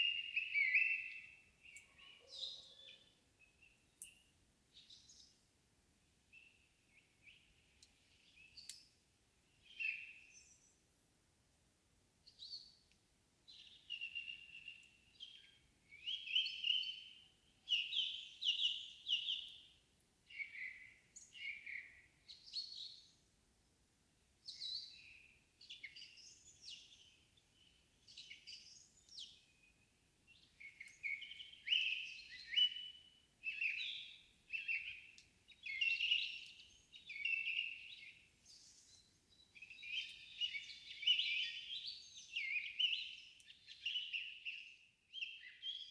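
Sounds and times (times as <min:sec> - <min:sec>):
songbirds singing: 0:00.0 - 0:10.8, 0:12.2 - 0:23.3, 0:24.4 - 0:45.9.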